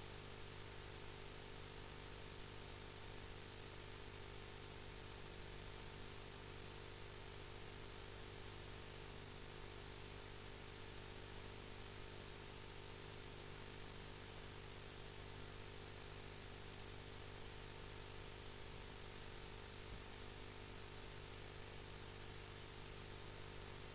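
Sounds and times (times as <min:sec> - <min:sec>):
low electrical hum: 0:00.0 - 0:23.9.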